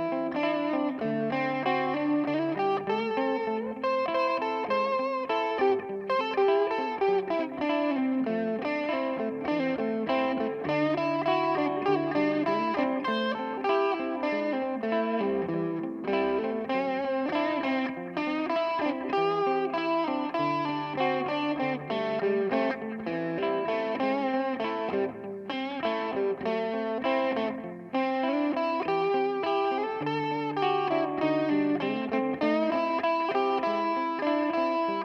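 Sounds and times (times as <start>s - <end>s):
electric guitar with delay: 0.0s - 35.0s.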